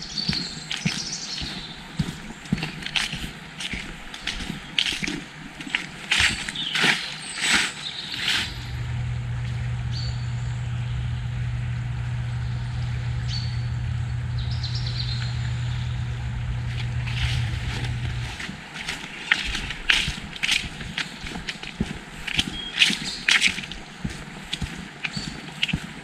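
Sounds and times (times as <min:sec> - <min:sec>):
birds chirping: 0:00.0 - 0:26.0
footsteps crunching: 0:00.0 - 0:26.0
steady low hum: 0:00.0 - 0:26.0.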